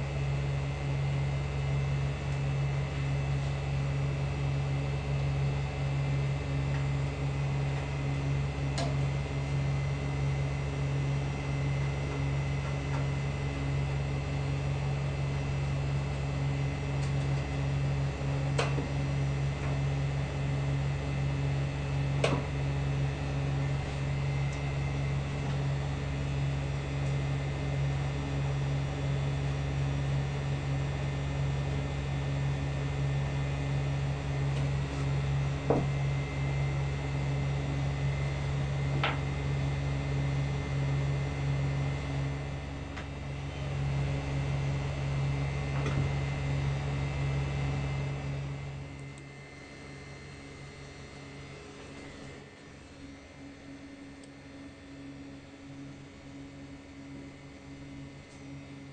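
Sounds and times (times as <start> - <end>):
low machine hum: 0.0 - 58.9.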